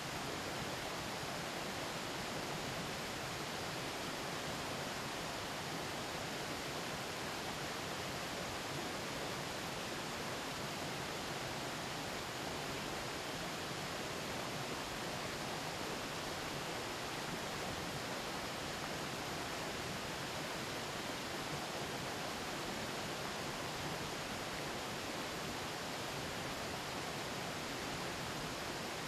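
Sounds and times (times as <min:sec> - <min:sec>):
river flowing steadily: 0:00.0 - 0:29.0.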